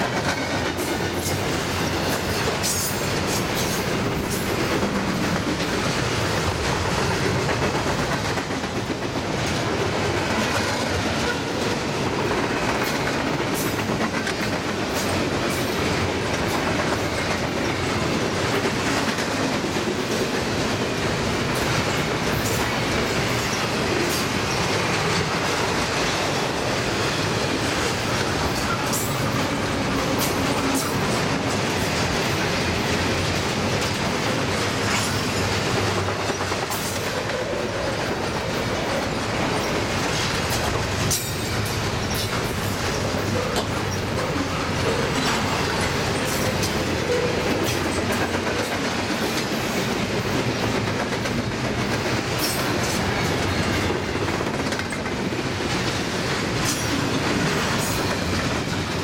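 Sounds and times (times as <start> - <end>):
freight train rolling past: 0.0 - 59.0
steel wheels rumbling on rail: 0.0 - 59.0.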